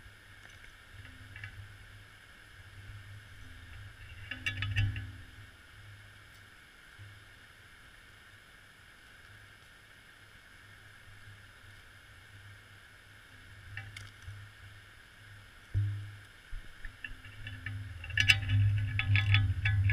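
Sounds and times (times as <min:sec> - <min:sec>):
low underwater hum: 0:00.0 - 0:19.9.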